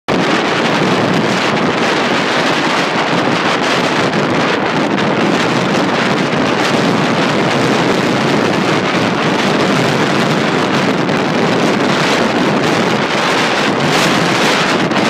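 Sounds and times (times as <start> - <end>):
choppy sea: 0.1 - 15.0
wind blowing across microphone: 0.1 - 15.0.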